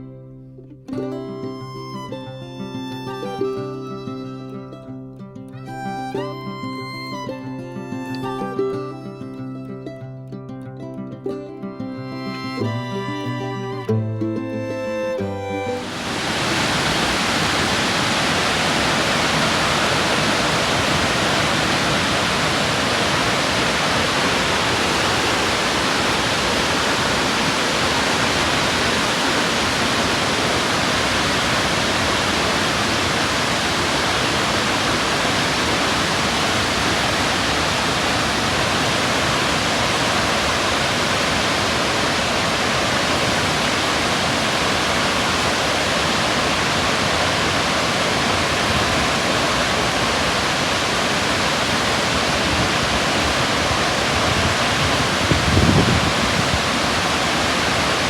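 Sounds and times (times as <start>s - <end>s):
waterfall rushing: 1.3s - 4.6s, 5.6s - 9.4s, 12.1s - 58.0s.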